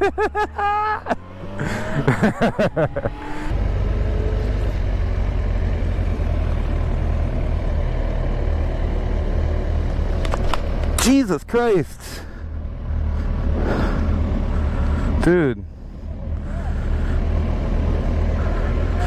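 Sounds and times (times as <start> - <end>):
motorcycle accelerating: 0.0 - 19.0.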